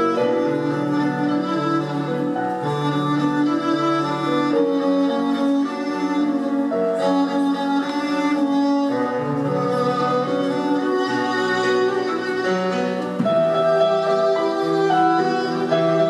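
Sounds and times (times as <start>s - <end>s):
slow bowed string music: 0.0s - 16.0s.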